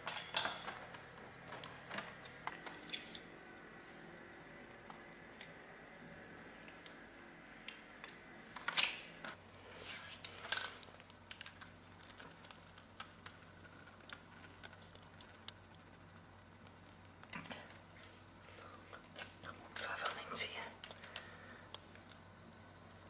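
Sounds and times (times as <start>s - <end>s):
faint clicks and handling noises: 0.0s - 3.4s, 6.5s - 23.0s
low steady hum: 0.0s - 23.0s.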